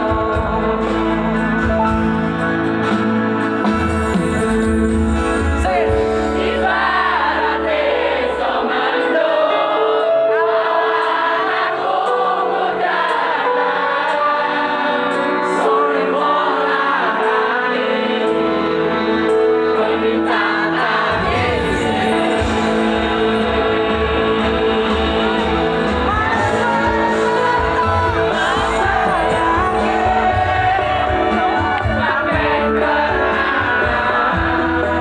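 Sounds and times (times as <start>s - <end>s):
live band music: 0.0s - 9.4s, 13.7s - 35.0s
crowd singing: 0.0s - 35.0s.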